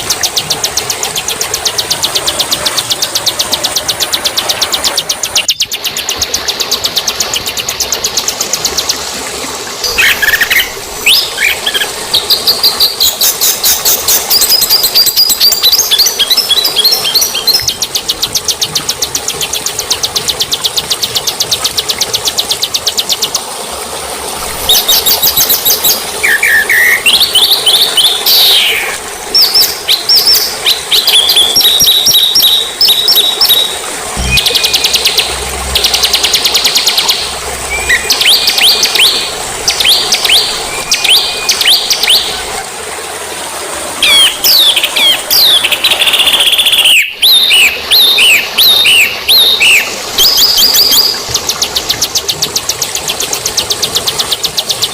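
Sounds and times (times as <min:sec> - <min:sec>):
songbirds trilling and chirping: 0:00.0 - 0:09.2, 0:09.8 - 0:23.4, 0:24.5 - 0:42.5, 0:44.0 - 0:54.9.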